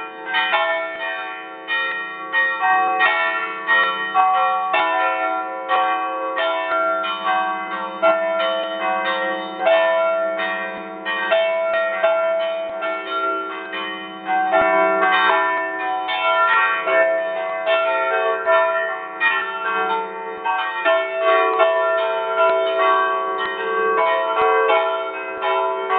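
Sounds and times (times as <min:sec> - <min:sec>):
church bells pealing: 0:00.0 - 0:25.9.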